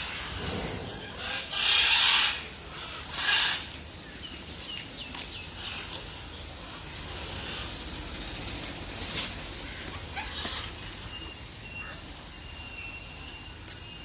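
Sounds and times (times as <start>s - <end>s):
birds giving harsh hissing calls: 0.0s - 8.2s, 9.4s - 14.0s.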